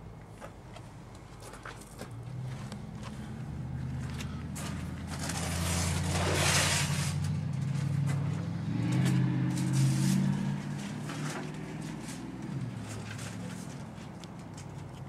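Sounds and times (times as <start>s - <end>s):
vehicle engine running: 1.9s - 15.0s.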